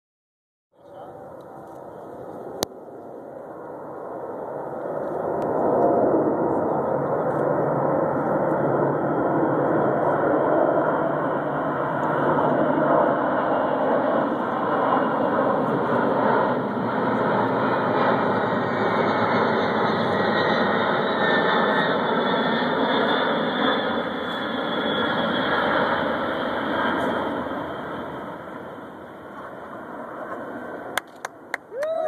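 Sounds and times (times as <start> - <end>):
jet engines roaring overhead: 0.8 - 32.0.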